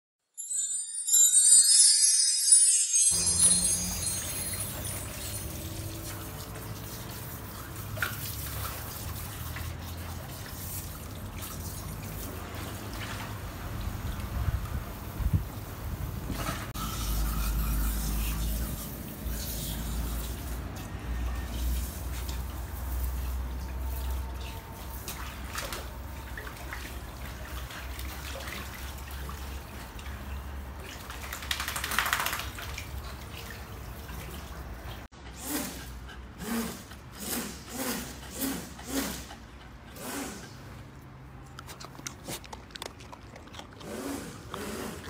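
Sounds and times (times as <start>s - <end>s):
hose water splashing: 3.0s - 41.0s.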